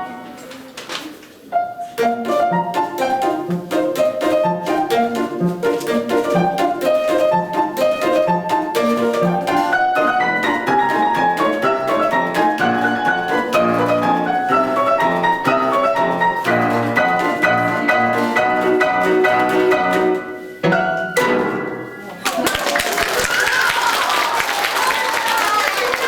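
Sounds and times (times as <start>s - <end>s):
piano playing a quick polka: 1.5s - 22.5s.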